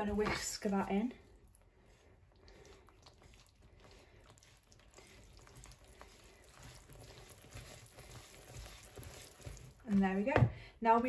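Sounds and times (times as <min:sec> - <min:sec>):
whisk stirring wet batter: 0:00.0 - 0:11.0.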